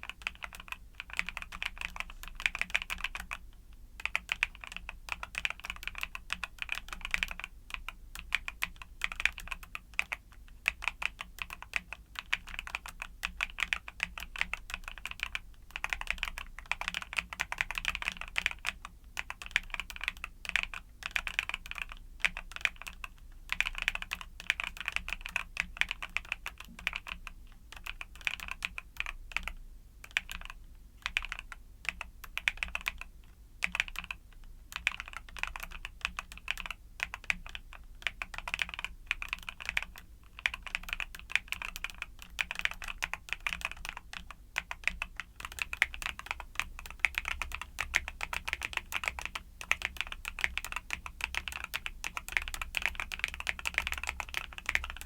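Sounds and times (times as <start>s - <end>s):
mechanical keyboard typing: 0.0s - 3.4s, 4.0s - 55.0s.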